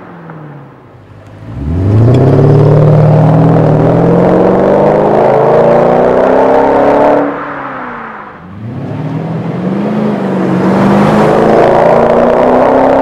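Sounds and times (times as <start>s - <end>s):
car engine accelerating hard: 1.0s - 13.0s.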